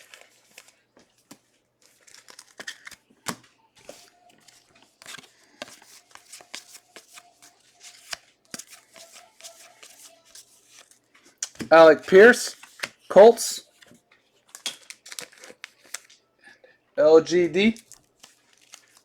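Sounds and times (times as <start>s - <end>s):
cards clicking and sliding: 0.0s - 13.9s, 14.5s - 16.2s, 17.8s - 19.0s
foil wrappers rustling: 0.0s - 16.2s, 17.6s - 19.0s.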